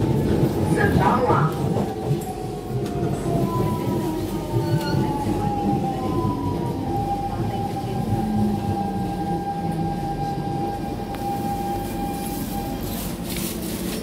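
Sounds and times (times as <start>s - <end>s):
metro car rumble: 0.0s - 14.0s.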